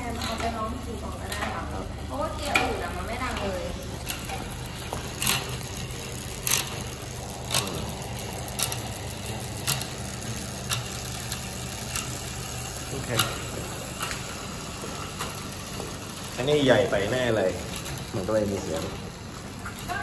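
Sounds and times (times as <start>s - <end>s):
bike chain running over cassette: 0.0s - 20.0s.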